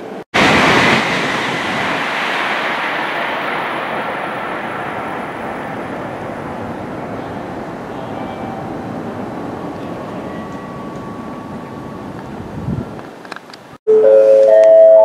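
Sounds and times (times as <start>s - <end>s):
high-speed train rushing past: 0.0s - 13.3s.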